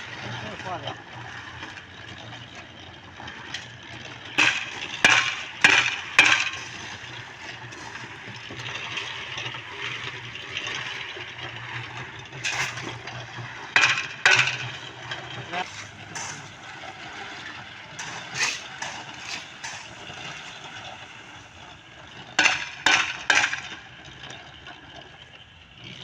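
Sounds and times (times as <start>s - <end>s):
wet concrete sloshing: 0.0s - 21.9s
low machine hum: 0.0s - 22.2s.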